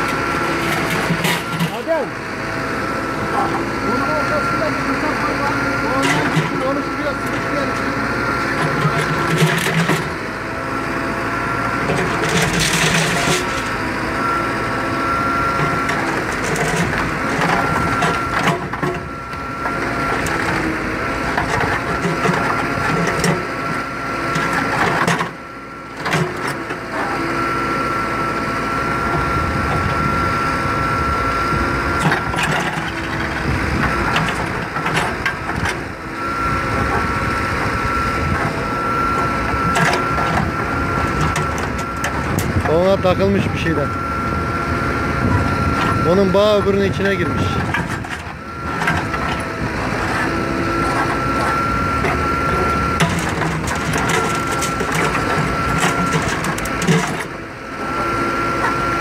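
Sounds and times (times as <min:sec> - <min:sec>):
diesel engine running: 0:00.0 - 0:59.0
high hydraulic whine: 0:00.0 - 0:59.0.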